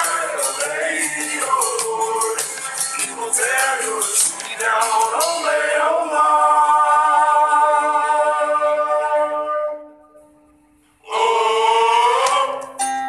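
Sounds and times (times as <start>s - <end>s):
voices singing held notes: 0.0s - 9.8s, 11.0s - 12.9s.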